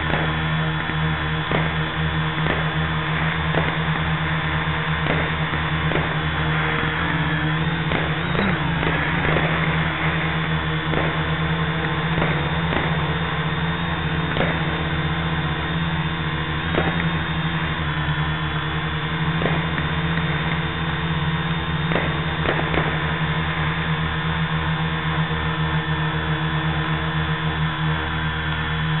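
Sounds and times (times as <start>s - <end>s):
faint fireworks pops: 0.0s - 24.3s
drone propellers humming: 0.0s - 29.0s.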